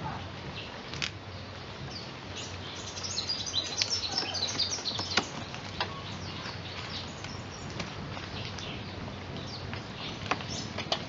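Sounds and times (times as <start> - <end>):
small birds twittering: 0.0 - 11.0.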